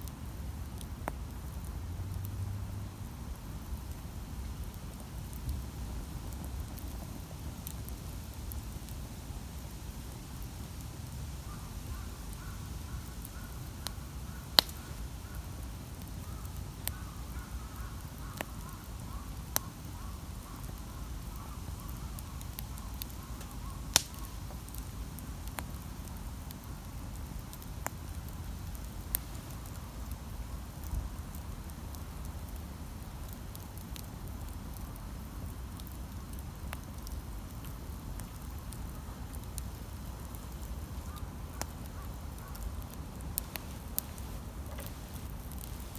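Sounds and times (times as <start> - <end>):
campfire crackling and popping: 0.0 - 45.9
low fire rumble: 0.0 - 45.9.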